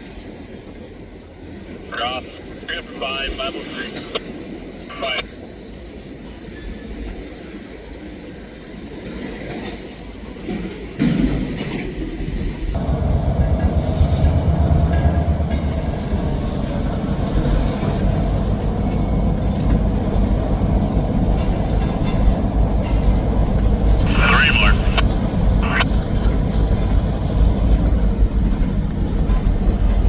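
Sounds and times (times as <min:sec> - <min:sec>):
diesel freight train passing: 0:00.0 - 0:30.0.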